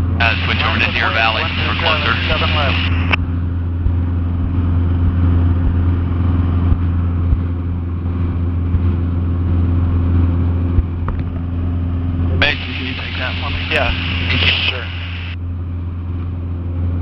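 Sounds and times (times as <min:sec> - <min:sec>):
airplane engine droning in cabin: 0:00.0 - 0:17.0.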